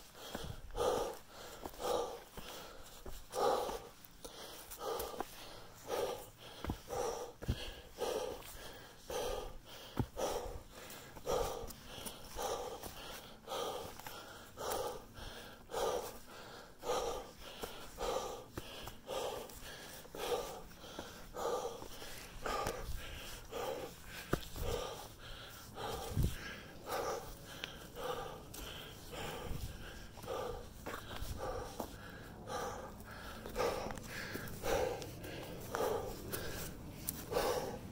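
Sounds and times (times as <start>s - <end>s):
heavy rhythmic panting: 0.0s - 37.9s.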